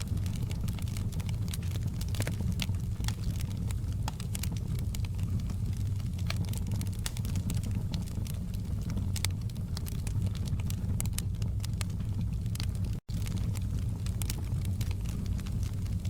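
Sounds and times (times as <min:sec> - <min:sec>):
fire popping and crackling: 0:00.0 - 0:16.0
low rumble of burning wood: 0:00.0 - 0:16.0.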